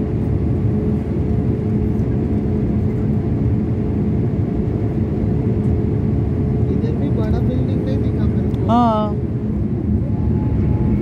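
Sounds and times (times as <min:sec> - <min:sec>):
airliner cabin drone: 0:00.0 - 0:11.0
steady hum: 0:00.0 - 0:11.0.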